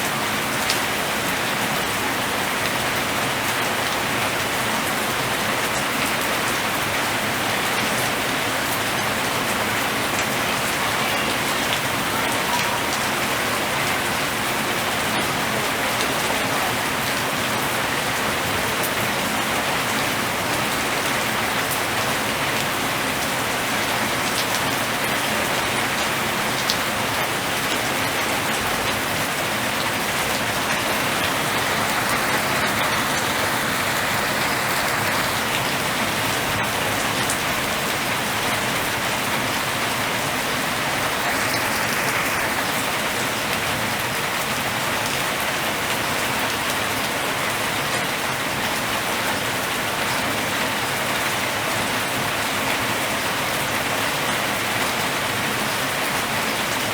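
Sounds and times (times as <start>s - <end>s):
rain hissing: 0.0s - 47.6s.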